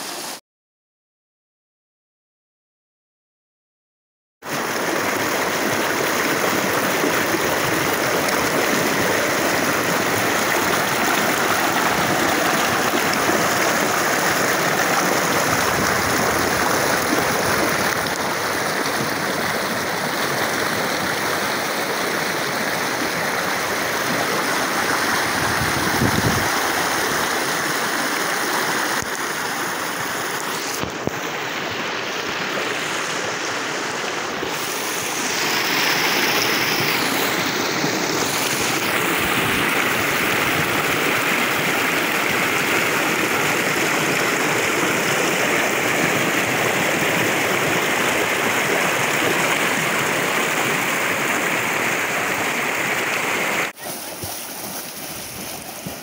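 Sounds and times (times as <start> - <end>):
river water rushing over rocks: 4.5 - 56.0.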